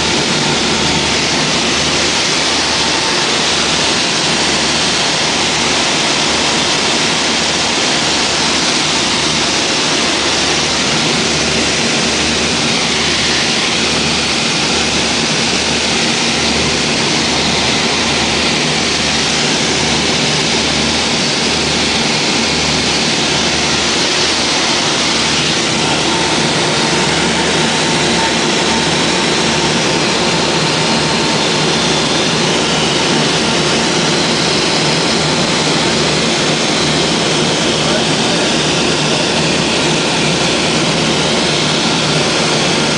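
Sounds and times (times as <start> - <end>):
propeller aircraft engines droning: 0.0 - 42.9.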